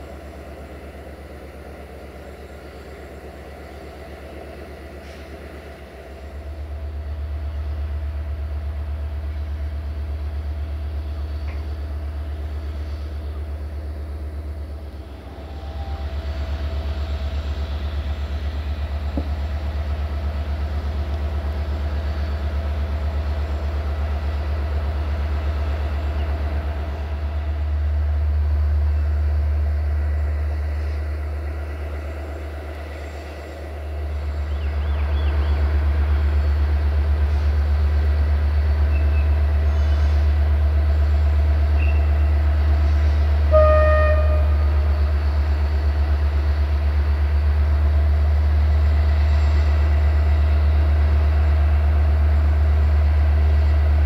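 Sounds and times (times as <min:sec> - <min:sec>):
diesel engine rumble: 0:00.0 - 0:54.0
rail and wagon noise: 0:00.0 - 0:54.0.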